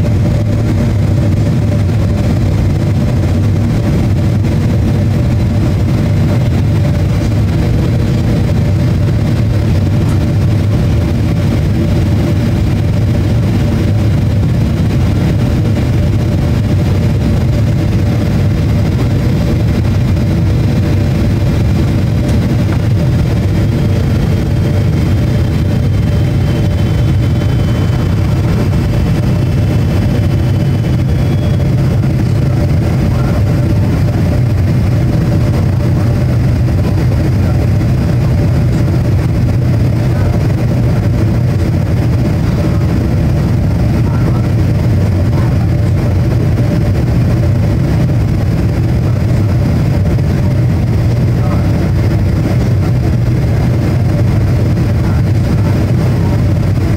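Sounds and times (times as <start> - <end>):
faint engine whine: 0.0 - 56.9
jet engine cabin rumble: 0.0 - 56.9.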